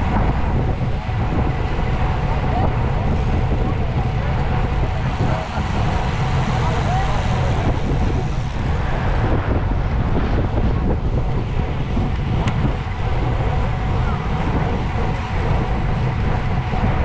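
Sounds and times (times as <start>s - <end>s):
tyre and road noise: 0.0s - 17.0s
wind buffeting microphone: 0.0s - 17.0s.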